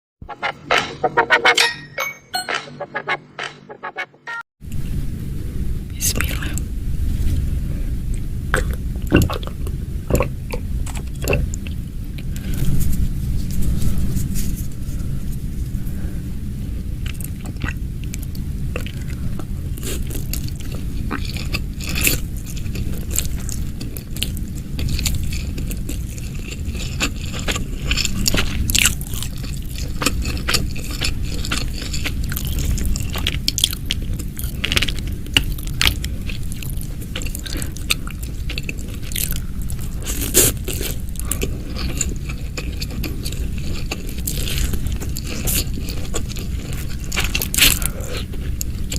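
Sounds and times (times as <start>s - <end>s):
crunching and chewing fried chicken: 8.6s - 16.1s, 16.7s - 48.9s.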